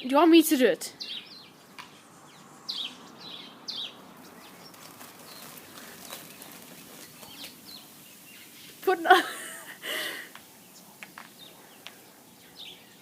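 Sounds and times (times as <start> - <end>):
birds chirping: 0.0 - 13.0
faint hiss: 0.2 - 13.0.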